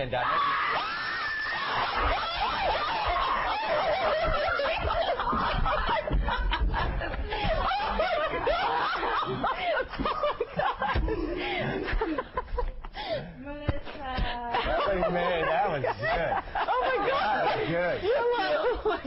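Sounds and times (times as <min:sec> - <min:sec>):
people laughing: 0:01.4 - 0:19.0.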